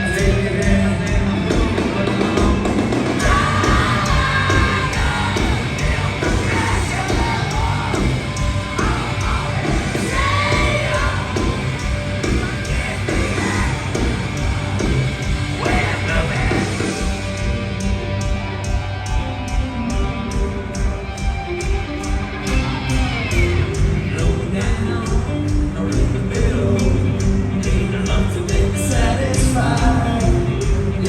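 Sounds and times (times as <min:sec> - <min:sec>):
heavy rock band playing: 0:00.0 - 0:31.0.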